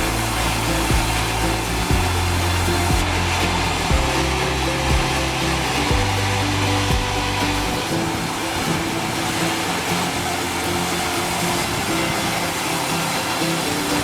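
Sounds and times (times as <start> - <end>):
low hum: 0.0 - 14.0
sawmill saw cutting log: 0.0 - 14.0.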